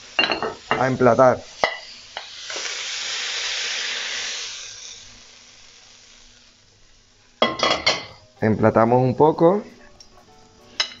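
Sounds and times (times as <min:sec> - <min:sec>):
stir-fry sizzling: 0:00.0 - 0:11.0.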